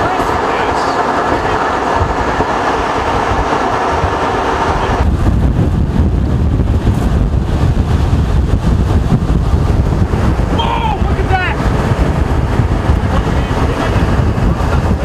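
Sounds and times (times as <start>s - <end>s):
gusty wind buffeting microphone: 0.0s - 15.0s
storm wind roaring: 0.0s - 15.0s.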